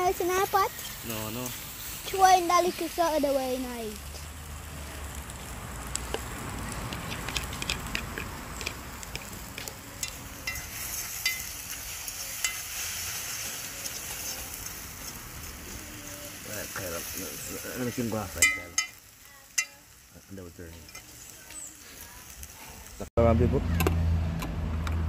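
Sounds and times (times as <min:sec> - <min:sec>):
egg sizzling in a pan: 0:00.0 - 0:23.1.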